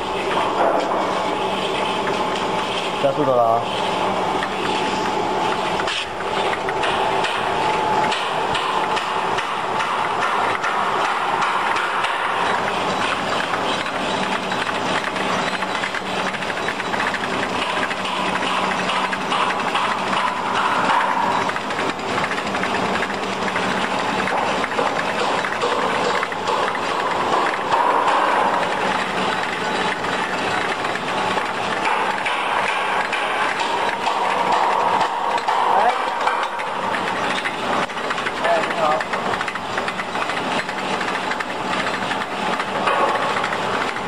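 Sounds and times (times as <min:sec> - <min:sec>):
machine clattering with rapid clicks: 0:00.0 - 0:44.0.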